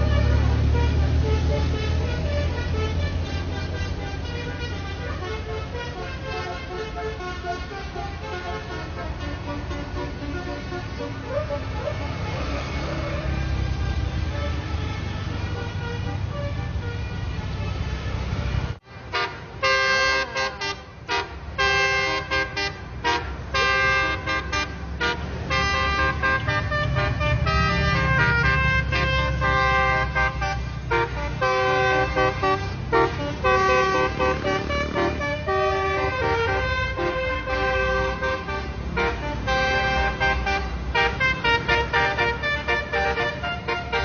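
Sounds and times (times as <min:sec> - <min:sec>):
bus engine running: 0:00.0 - 0:44.0
multi-tone musical bus horn: 0:00.0 - 0:44.0.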